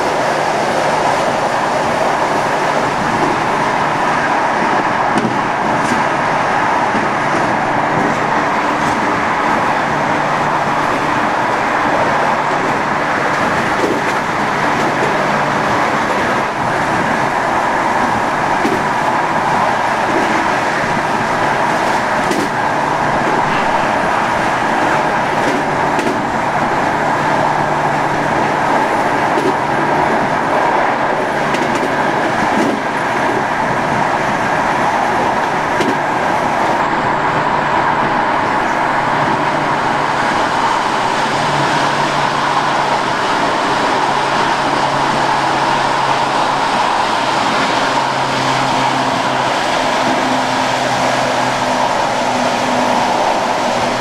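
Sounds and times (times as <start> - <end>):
train rolling noise: 0.0 - 54.0.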